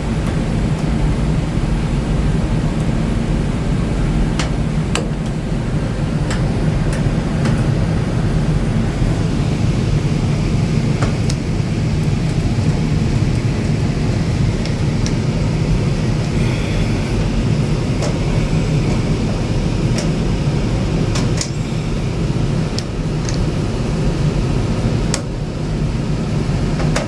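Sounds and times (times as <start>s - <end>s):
low rumbling noise: 0.0s - 26.8s.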